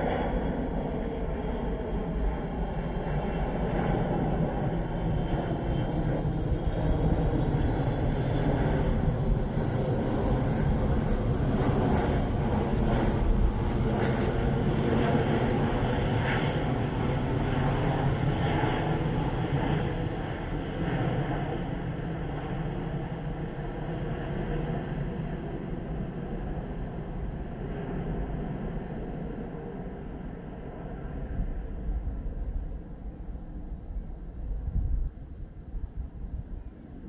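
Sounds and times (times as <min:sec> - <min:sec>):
jet airliner engine noise: 0:00.0 - 0:37.0.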